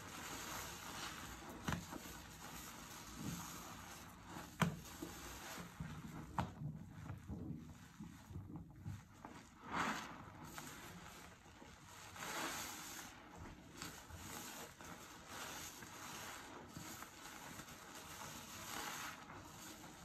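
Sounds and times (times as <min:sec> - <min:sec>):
soapy sponge squelching: 0:00.0 - 0:20.0.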